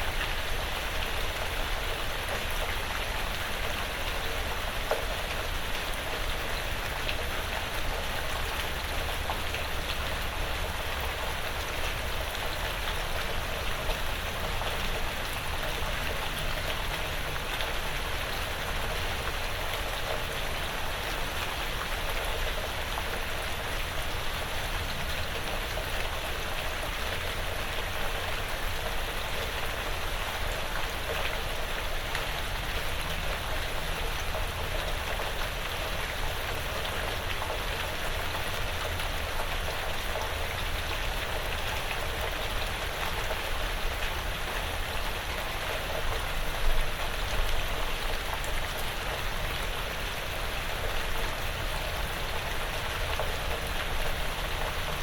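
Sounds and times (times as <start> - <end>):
light rain pattering on roof: 0.0 - 55.0.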